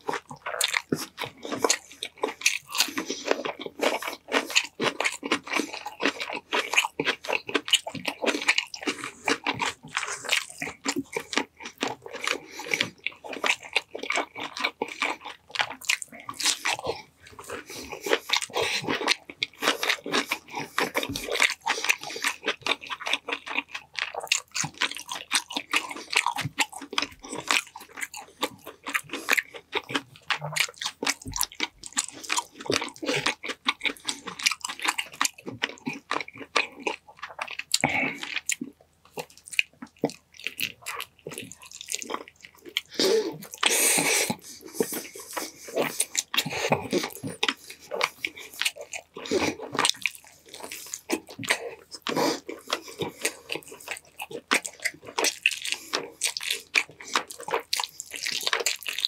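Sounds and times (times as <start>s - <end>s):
wet chewing and lip smacking: 0.0s - 59.0s.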